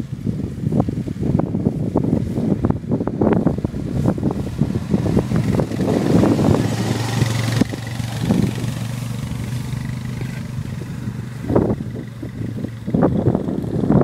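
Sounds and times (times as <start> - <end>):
wind buffeting microphone: 0.0 - 14.0
quad bike engine running: 0.2 - 14.0.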